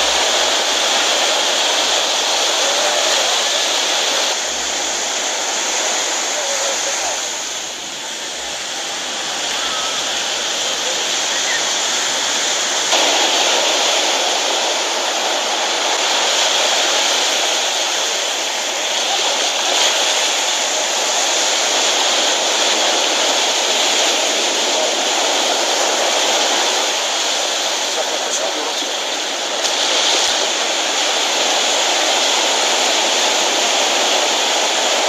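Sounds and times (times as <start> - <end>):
small waves washing on a beach: 0.0 - 35.0.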